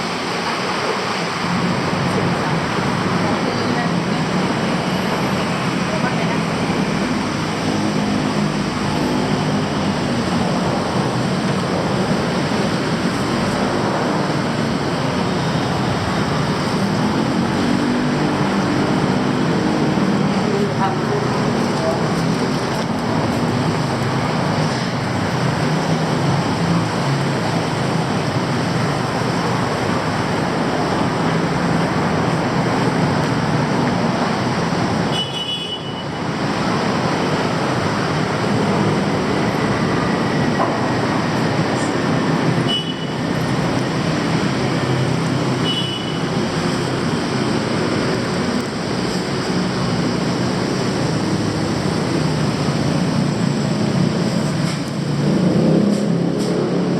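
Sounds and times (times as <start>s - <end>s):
dense city traffic rumble: 0.0s - 56.9s.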